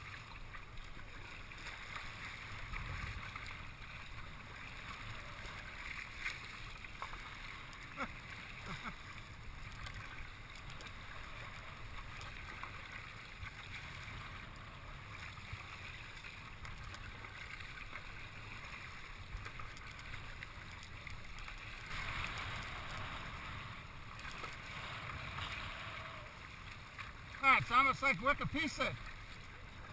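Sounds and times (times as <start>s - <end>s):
water washing around kayak: 0.0s - 29.9s.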